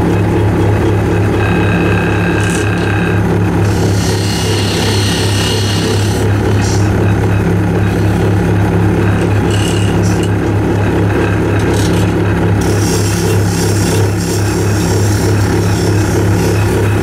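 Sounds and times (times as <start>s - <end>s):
turning tool scraping wood: 0.0s - 17.0s
wood lathe humming: 0.0s - 17.0s.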